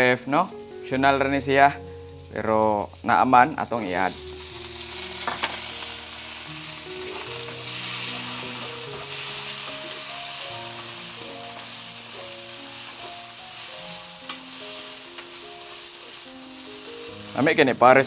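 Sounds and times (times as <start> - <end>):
food sizzling in hot oil: 0.0 - 18.0
soft background music: 0.0 - 18.0.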